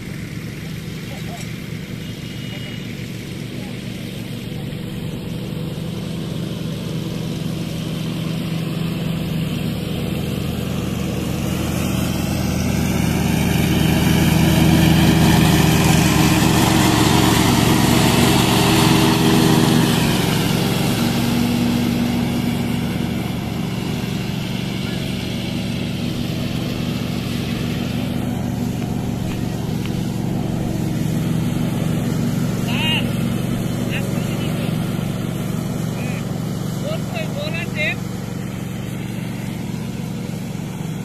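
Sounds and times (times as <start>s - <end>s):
riding mower engine passing: 0.0s - 41.0s.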